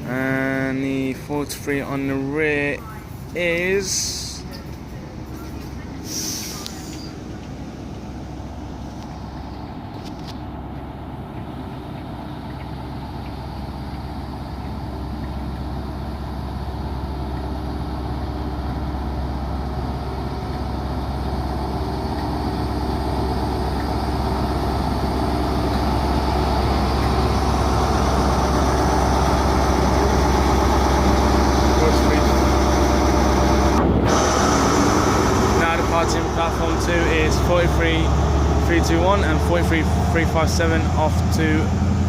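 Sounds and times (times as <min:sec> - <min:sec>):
diesel train engine running: 0:00.0 - 0:42.0.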